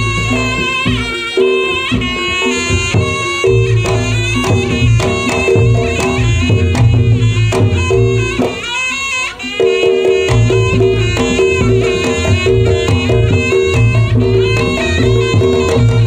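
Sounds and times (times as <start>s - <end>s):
hand drumming: 0.0s - 16.0s
shawm melody: 0.0s - 16.0s.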